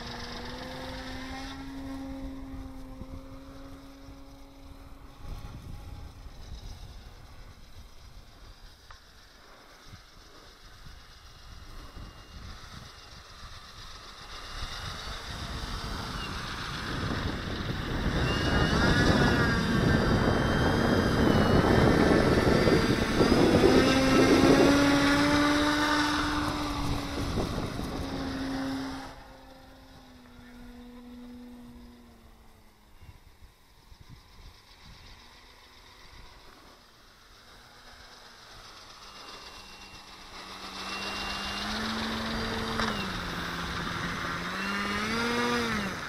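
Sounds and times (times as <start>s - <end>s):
model aircraft motor and propeller whine: 0.0s - 46.0s.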